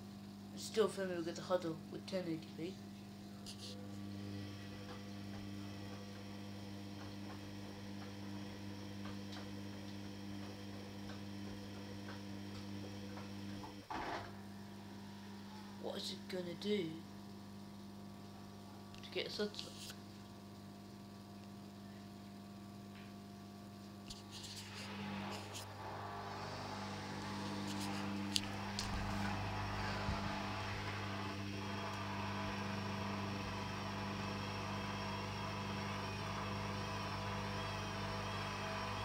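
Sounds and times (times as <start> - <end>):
washing machine motor whirring: 0.0 - 39.0.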